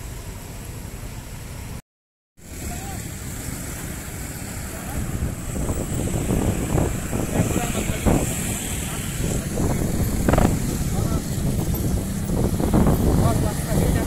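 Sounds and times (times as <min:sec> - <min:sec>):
motorcycles and cars passing: 0:02.4 - 0:14.0
wind rumbling on microphone: 0:02.5 - 0:14.0.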